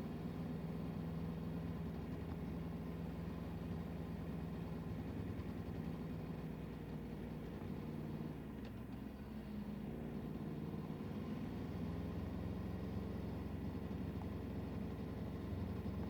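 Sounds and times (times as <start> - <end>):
road rumble: 0.0 - 16.0
vehicle engine humming: 0.0 - 16.0.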